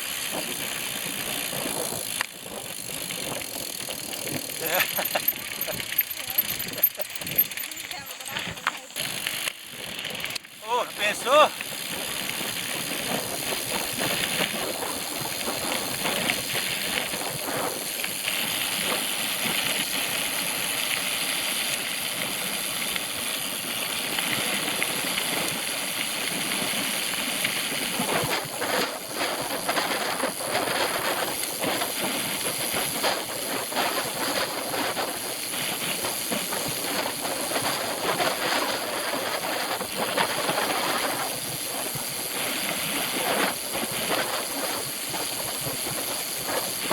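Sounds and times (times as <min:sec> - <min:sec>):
bicycle rattles and knocks: 0:00.0 - 0:46.9
bicycle tyres on rough trail: 0:00.0 - 0:46.9.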